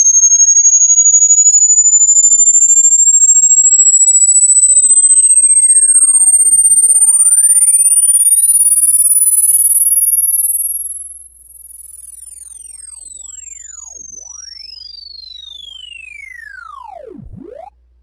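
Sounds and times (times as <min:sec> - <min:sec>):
rising sine tone whistle: 0:00.0 - 0:18.0.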